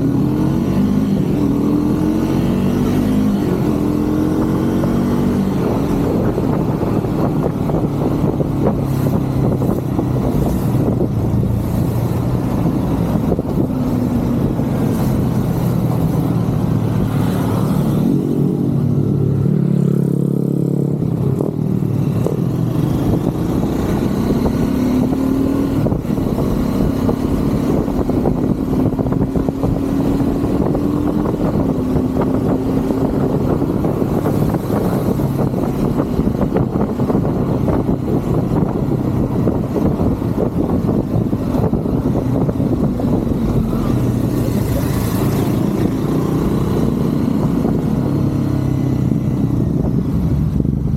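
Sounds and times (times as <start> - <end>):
motorcycle engine accelerating: 0.0 - 50.9
road and traffic noise: 0.0 - 50.9.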